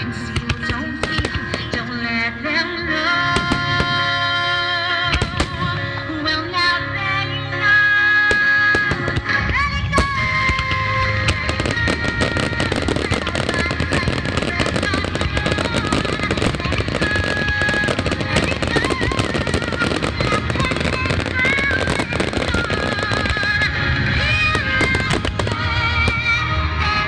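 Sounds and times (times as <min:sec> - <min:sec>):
fireworks bursting and crackling: 0:00.0 - 0:02.2, 0:03.4 - 0:04.2, 0:05.1 - 0:06.0, 0:08.3 - 0:27.0
music playing: 0:00.0 - 0:27.0.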